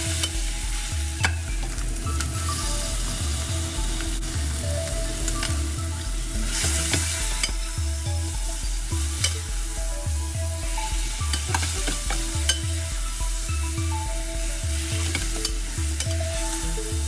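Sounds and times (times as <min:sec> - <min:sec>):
background music bass line: 0:00.0 - 0:17.0.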